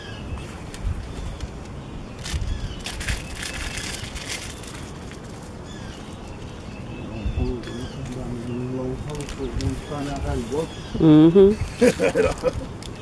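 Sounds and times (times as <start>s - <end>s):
birds chirping: 0.0s - 13.0s
rustling crinkling noise: 0.3s - 6.9s, 7.6s - 10.8s, 11.7s - 13.0s.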